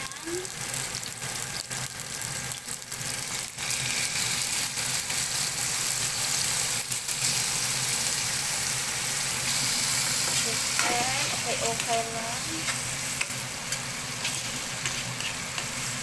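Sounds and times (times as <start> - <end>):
oil sizzling in pan: 0.0 - 16.0.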